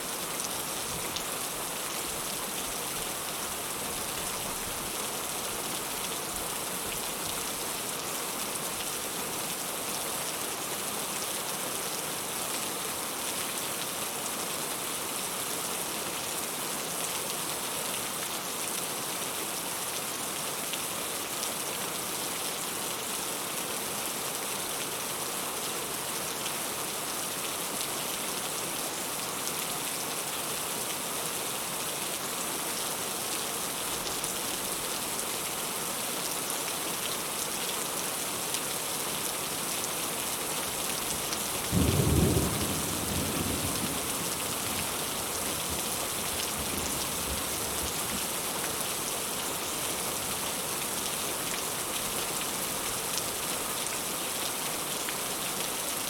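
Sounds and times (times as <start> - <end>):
heavy rain falling: 0.1 - 22.8, 23.4 - 56.0.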